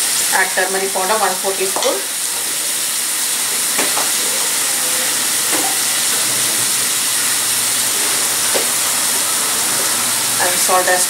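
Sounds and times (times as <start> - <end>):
chicken frying in a pan: 0.0 - 11.0.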